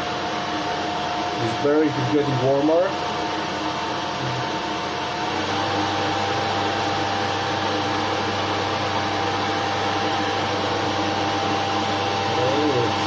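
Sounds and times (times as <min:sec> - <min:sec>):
motor spindle whine and hum: 0:00.0 - 0:13.0.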